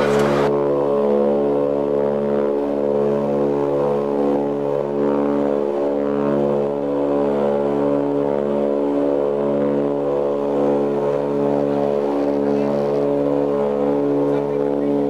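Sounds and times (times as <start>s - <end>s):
turboprop engines humming in cabin: 0.0s - 15.0s.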